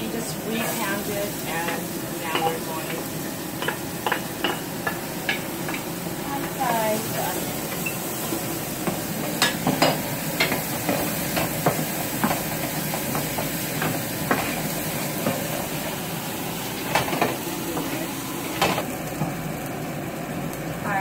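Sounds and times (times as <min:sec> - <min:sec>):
onions sizzling in a pan: 0:00.0 - 0:21.0.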